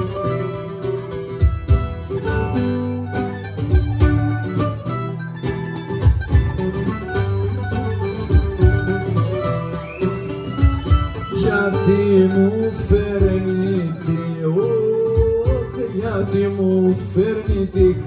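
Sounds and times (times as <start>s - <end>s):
strummed lute and mandolin: 0.0s - 18.0s.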